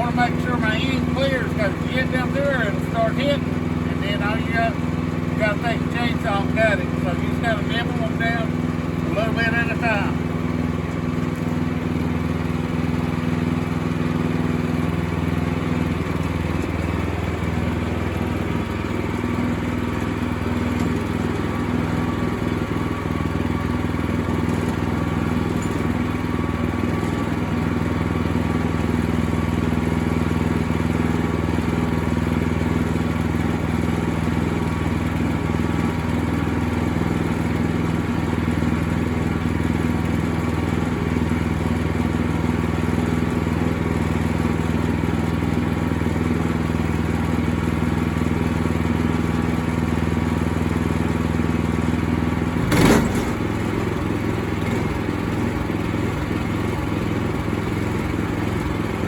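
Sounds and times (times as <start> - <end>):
gasoline engine running: 0.0 - 59.0.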